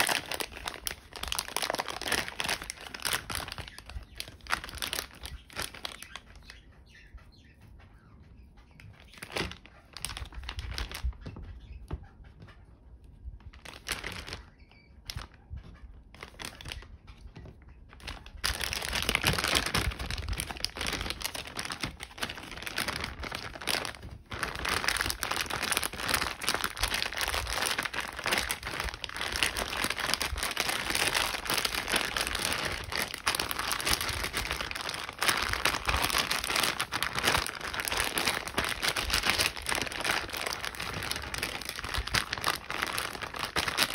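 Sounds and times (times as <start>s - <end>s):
plastic bag crinkling: 0.0s - 6.3s, 9.0s - 11.3s, 13.4s - 15.4s, 16.1s - 16.9s, 17.9s - 43.9s.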